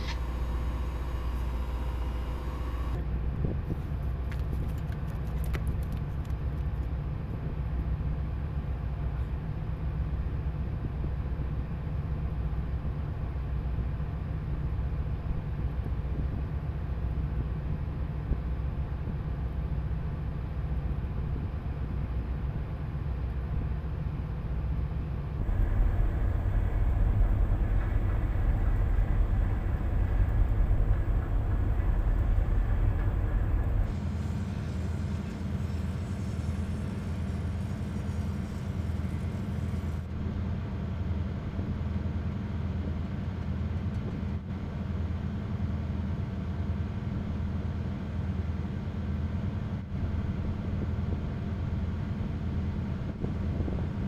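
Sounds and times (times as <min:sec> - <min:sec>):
tugboat engine drone: 0:00.0 - 0:04.0, 0:07.0 - 0:54.0.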